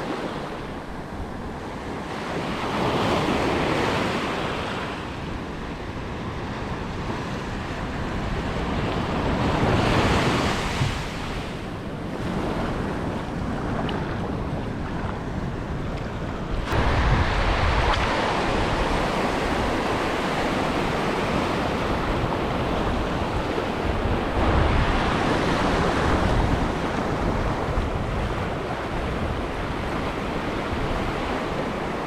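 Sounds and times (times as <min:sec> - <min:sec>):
surf washing over reef: 0:00.0 - 0:32.0
wind on microphone: 0:00.0 - 0:32.0.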